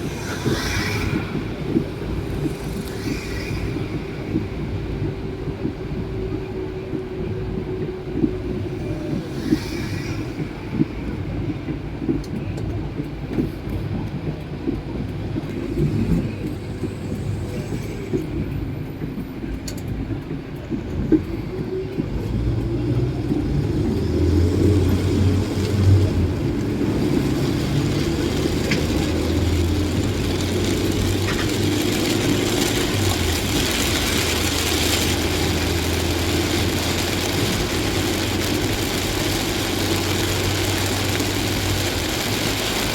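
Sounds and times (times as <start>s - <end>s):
rain hiss on wet road: 0.0s - 20.3s, 20.9s - 42.9s
vehicle road and engine rumble: 0.0s - 42.9s.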